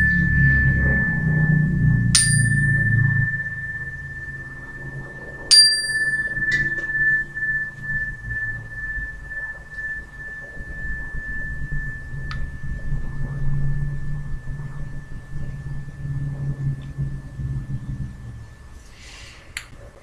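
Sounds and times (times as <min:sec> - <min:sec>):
tuning fork ringing: 0:00.0 - 0:18.5.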